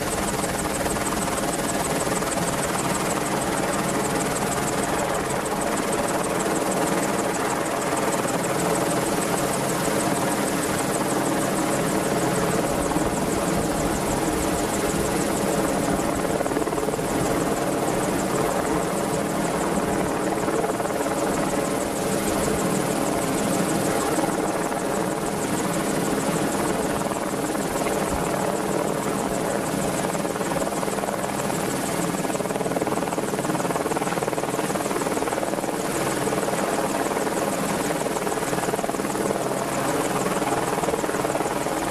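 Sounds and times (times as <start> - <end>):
helicopter rotors and engines: 0.0 - 41.9.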